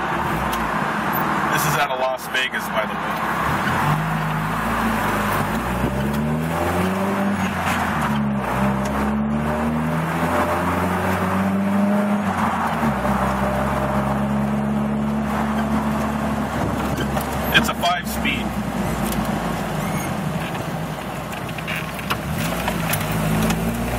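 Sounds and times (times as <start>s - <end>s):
car engine revving: 2.7s - 23.9s.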